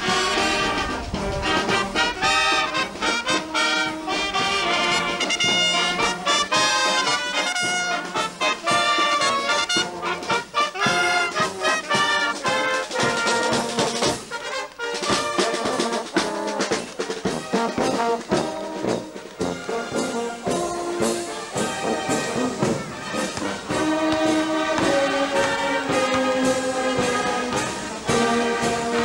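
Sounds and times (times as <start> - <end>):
brass band playing a march: 0.0 - 29.0
steady drum beat: 0.0 - 29.0.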